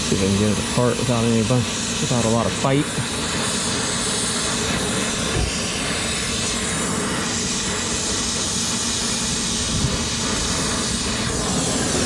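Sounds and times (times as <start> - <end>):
brazing torch hissing: 0.0 - 12.0.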